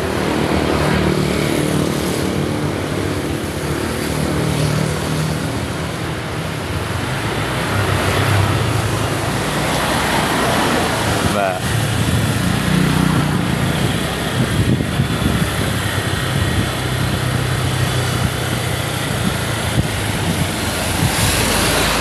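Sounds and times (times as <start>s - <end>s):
road and wind noise: 0.0s - 22.0s.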